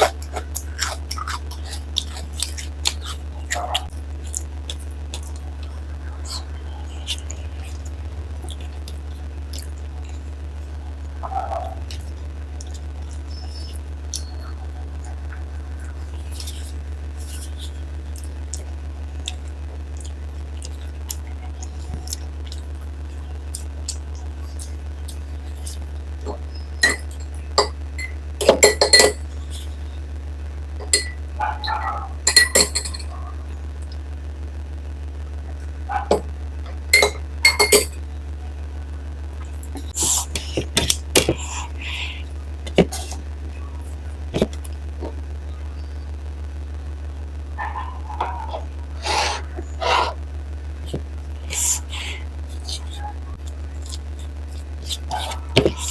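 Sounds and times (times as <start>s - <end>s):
low hum: 3.2s - 55.9s.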